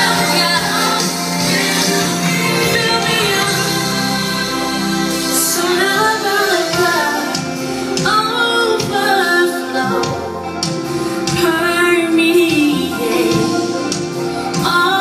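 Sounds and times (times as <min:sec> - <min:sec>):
steady musical accompaniment: 0:00.0 - 0:15.0.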